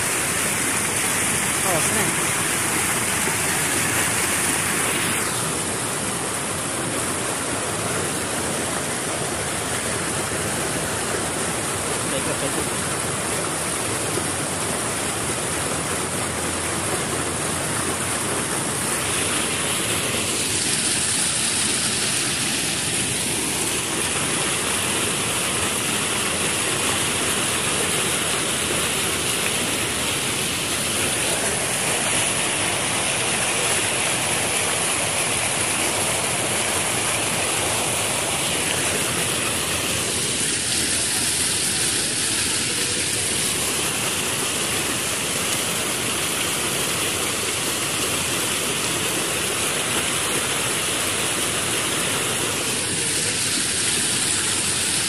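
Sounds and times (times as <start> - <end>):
water rushing over a weir: 0.0 - 55.0.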